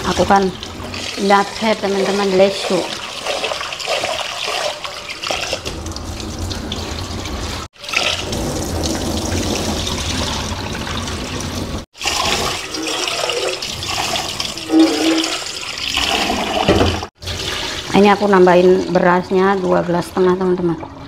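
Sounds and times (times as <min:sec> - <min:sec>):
water splashing and pouring: 0:00.0 - 0:18.1.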